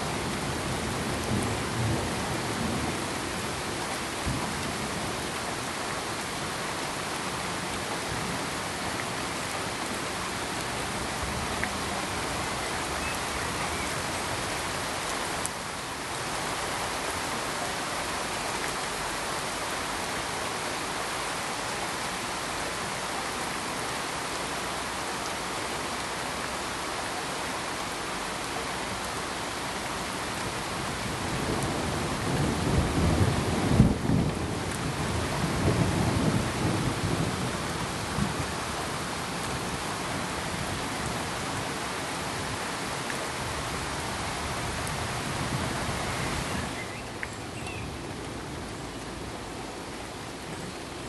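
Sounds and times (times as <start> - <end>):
rain hissing: 0.0 - 51.0.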